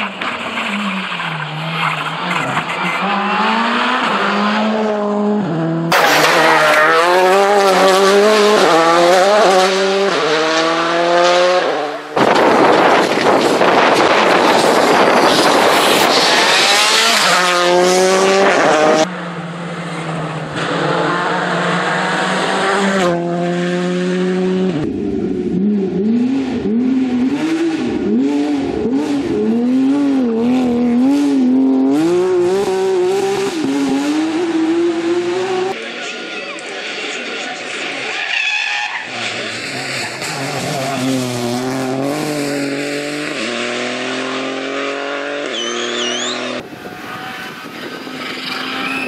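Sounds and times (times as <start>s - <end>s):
rally car engine revving: 0.0s - 38.2s, 38.8s - 49.0s.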